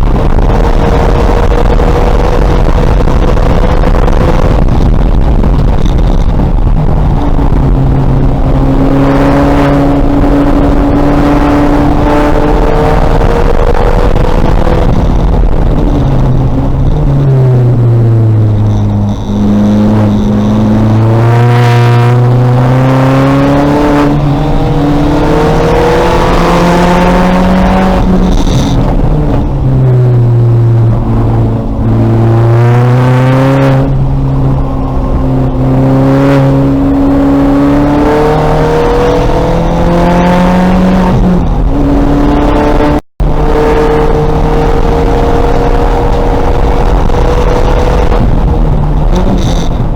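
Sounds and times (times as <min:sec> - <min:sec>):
car engine at full throttle: 0:00.0 - 0:49.9.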